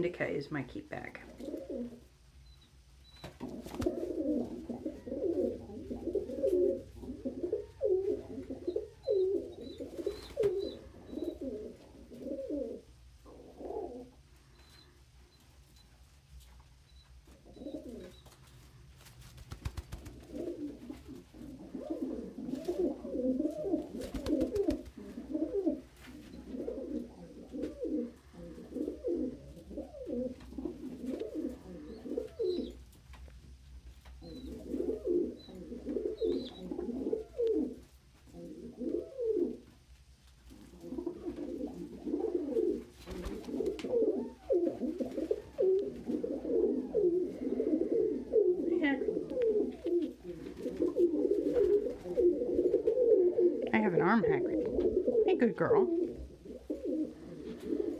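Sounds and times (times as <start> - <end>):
pigeons cooing: 1.2 - 2.2, 3.3 - 15.2, 17.2 - 18.6, 19.4 - 33.0, 34.0 - 57.9.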